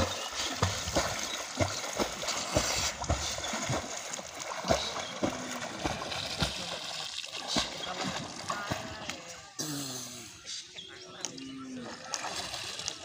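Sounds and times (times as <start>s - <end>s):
water splashing and rushing: 0.0s - 9.5s, 11.4s - 13.0s.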